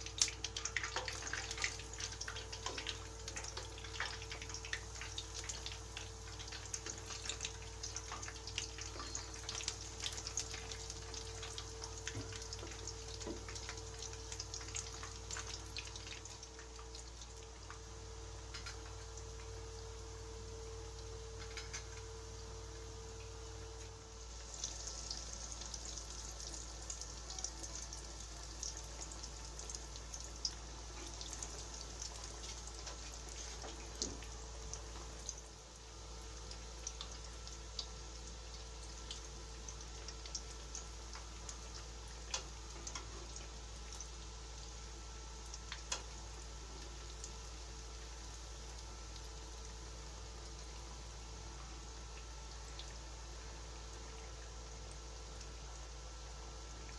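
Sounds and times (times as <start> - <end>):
oil sizzling with crackles and pops: 0.0 - 56.9.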